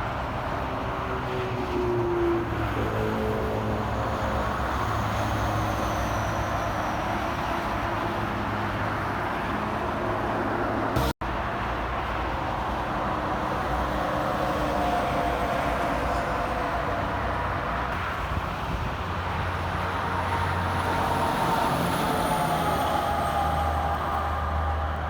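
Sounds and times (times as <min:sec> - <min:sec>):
highway traffic passing: 0:00.0 - 0:25.0.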